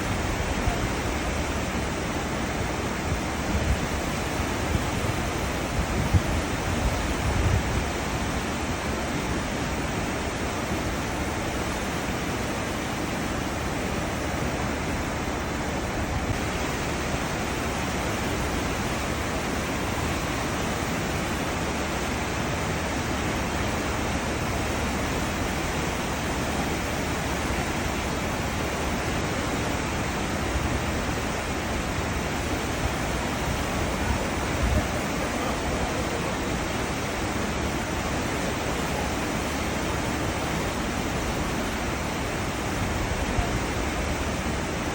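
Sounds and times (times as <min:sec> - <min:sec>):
churning seawater rushing: 0:00.0 - 0:44.9.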